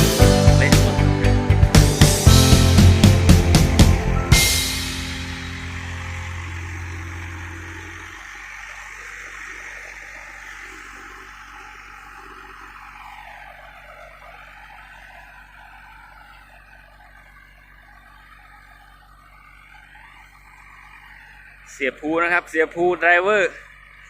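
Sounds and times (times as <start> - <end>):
truck diesel engine droning: 0.0 - 24.0.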